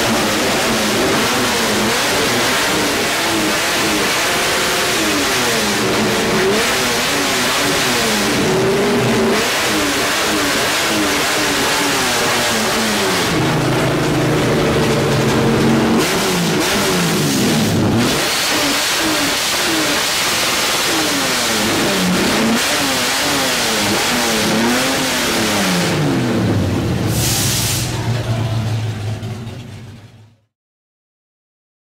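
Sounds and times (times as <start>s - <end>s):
car engine revving: 0.0s - 30.2s.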